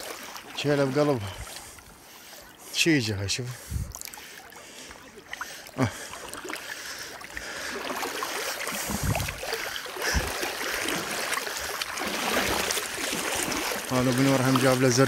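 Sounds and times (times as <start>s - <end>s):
splashing shallow water: 0.0s - 15.0s.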